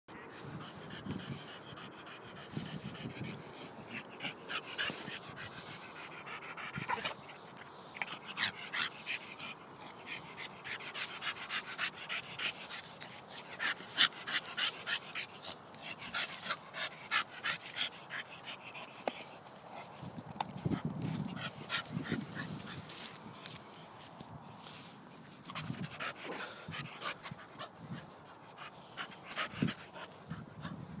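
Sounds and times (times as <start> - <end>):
dog panting: 0.2 - 23.2, 25.5 - 31.0.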